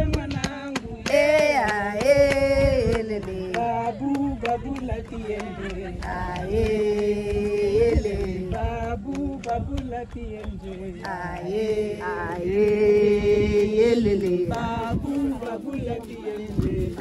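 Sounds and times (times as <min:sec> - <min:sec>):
women singing in unison: 0:00.0 - 0:10.2, 0:10.8 - 0:17.0.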